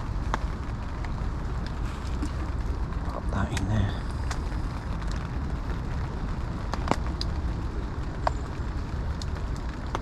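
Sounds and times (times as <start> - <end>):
heavy rain on fabric canopy: 0.0 - 10.0
sharp raindrop taps: 0.0 - 10.0.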